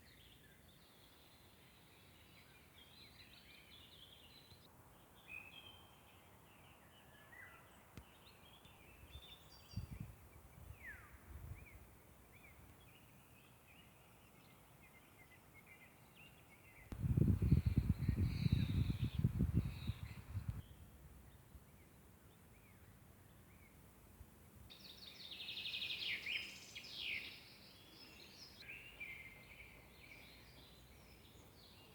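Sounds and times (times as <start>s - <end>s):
songbirds singing and chirping: 0.0s - 23.9s, 24.7s - 31.9s.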